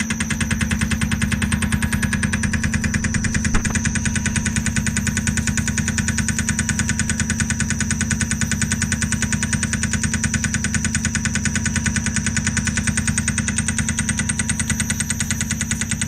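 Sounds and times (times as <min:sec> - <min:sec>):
spindle drive whine: 0:00.0 - 0:16.0.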